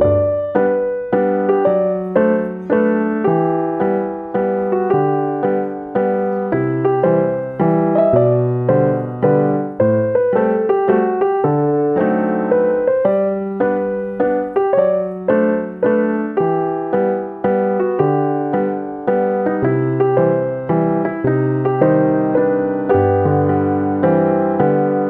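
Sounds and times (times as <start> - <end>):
gentle piano tune: 0.0 - 25.0.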